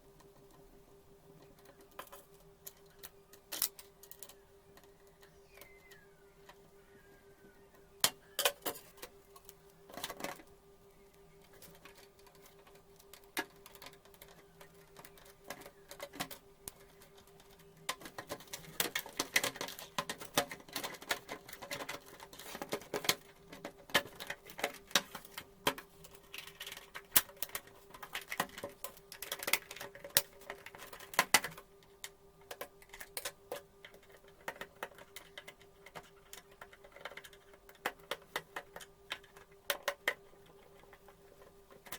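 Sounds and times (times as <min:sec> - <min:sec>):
faint steady hum: 0:00.0 - 0:41.9
plastic and metal parts clicking: 0:01.4 - 0:06.6, 0:11.4 - 0:41.9.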